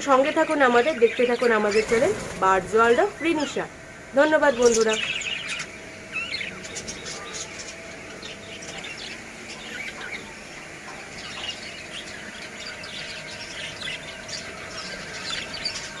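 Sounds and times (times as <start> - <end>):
budgerigars chirping: 0.0 - 3.7, 4.3 - 16.0.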